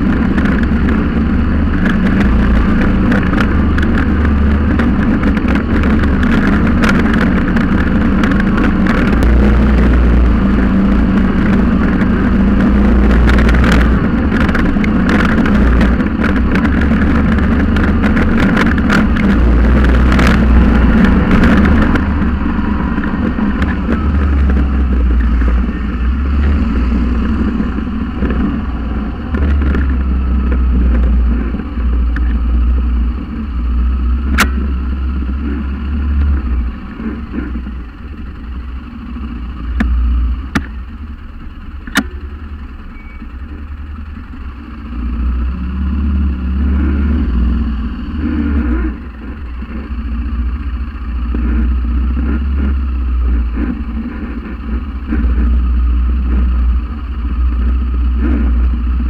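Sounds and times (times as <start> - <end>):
quad bike engine rumbling: 0.0 - 59.0.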